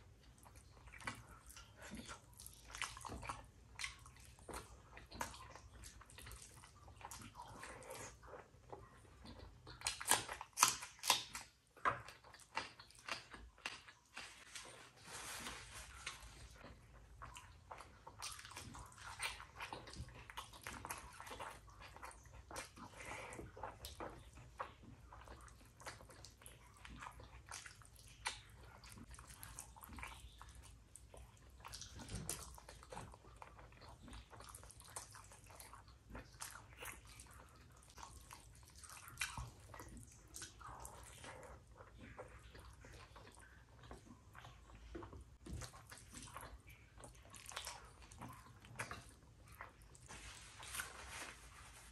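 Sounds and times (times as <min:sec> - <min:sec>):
wet chewing and lip smacks: 0:00.0 - 0:14.8, 0:15.8 - 0:51.9
rice and curry squishing: 0:00.1 - 0:51.9.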